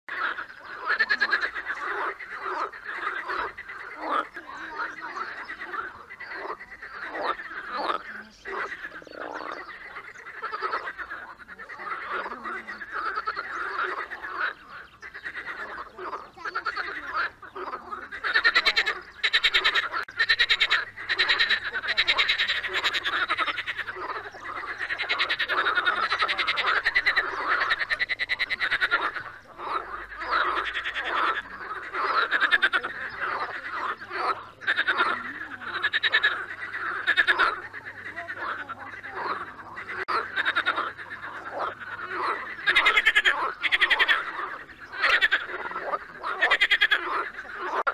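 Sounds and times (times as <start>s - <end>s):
frogs croaking: 0.1s - 47.9s.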